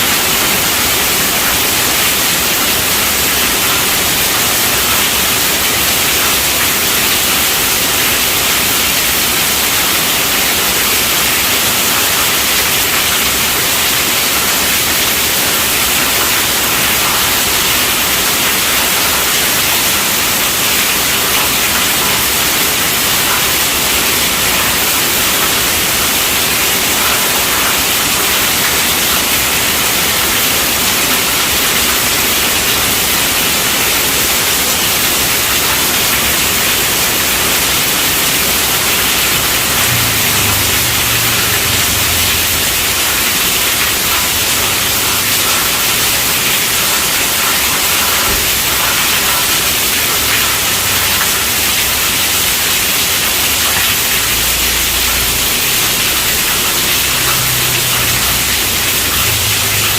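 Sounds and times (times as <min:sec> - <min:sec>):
heavy rain on a tent roof: 0:00.0 - 0:59.9.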